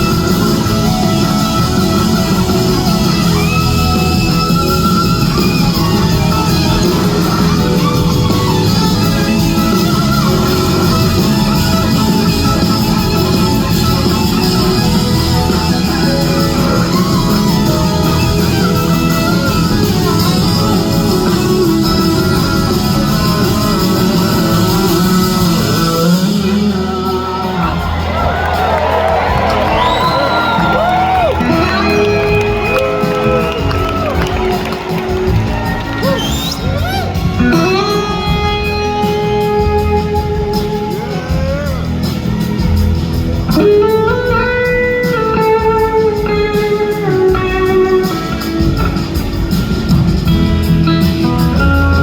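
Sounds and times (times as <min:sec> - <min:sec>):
electric slide guitar: 0:00.0 - 0:52.0
rock band playing: 0:00.0 - 0:52.0.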